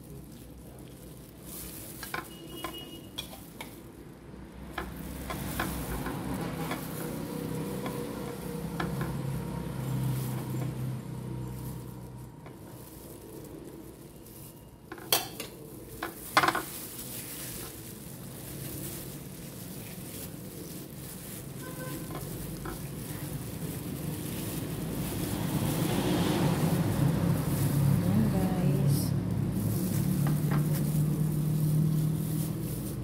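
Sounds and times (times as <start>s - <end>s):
plastic gloves crinkling: 0.0s - 33.0s.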